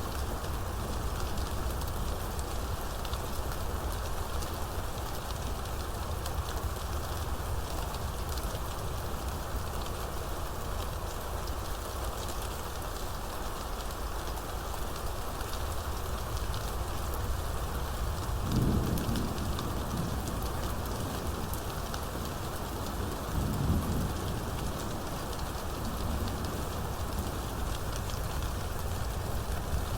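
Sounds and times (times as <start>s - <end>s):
heavy rain: 0.0s - 29.9s.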